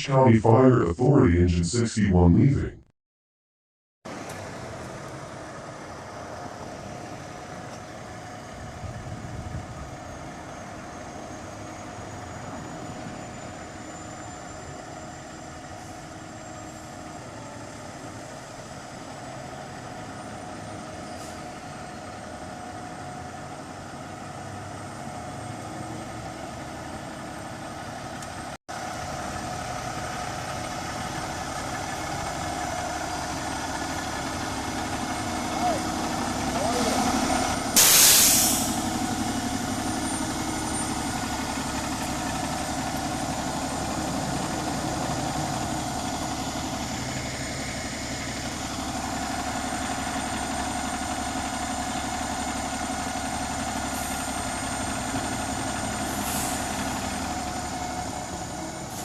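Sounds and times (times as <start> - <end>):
fire engine diesel engine running: 4.1 - 59.0.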